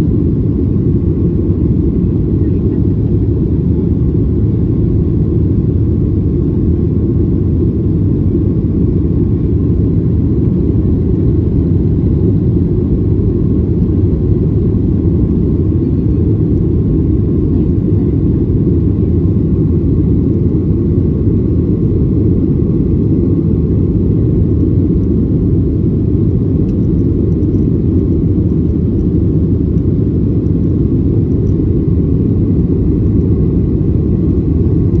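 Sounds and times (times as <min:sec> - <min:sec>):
jet airliner cabin noise: 0:00.0 - 0:35.0.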